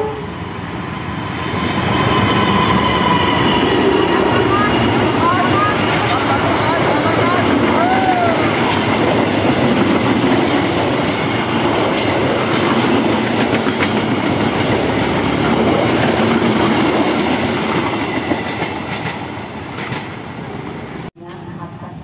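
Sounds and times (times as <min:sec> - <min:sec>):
train wheels rolling on rails: 0:00.4 - 0:21.7.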